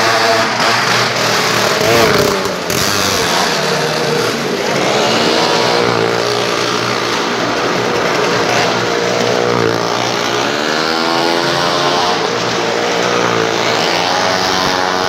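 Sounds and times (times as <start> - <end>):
motorcycle engine running hard: 0.0 - 15.0.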